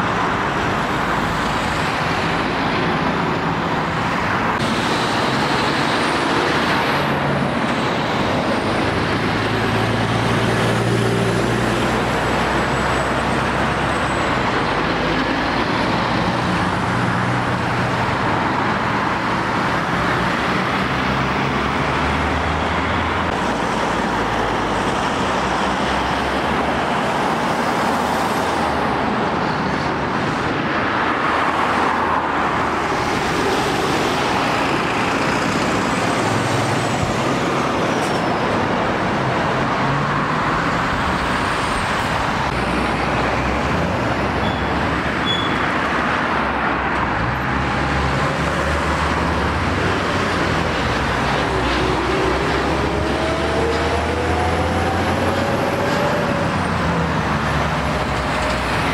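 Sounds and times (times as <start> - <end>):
diesel engines running: 0.0 - 58.9
vehicles passing close by: 0.0 - 58.9.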